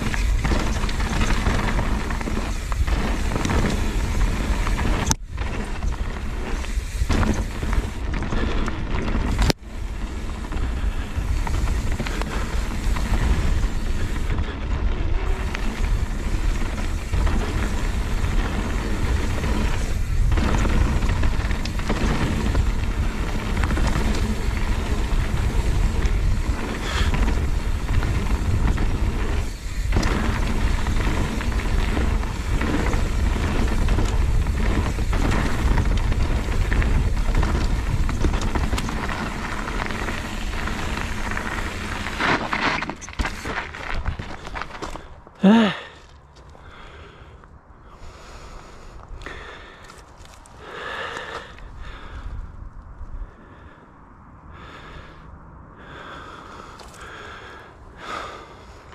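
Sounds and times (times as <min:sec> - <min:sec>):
wind buffeting microphone: 0:00.0 - 0:45.0, 0:48.0 - 0:58.9
bike rattling: 0:00.0 - 0:47.3, 0:48.0 - 0:52.7, 0:55.9 - 0:58.9
bike tyres rolling on dirt: 0:00.0 - 0:53.8, 0:54.5 - 0:55.2, 0:55.8 - 0:58.9.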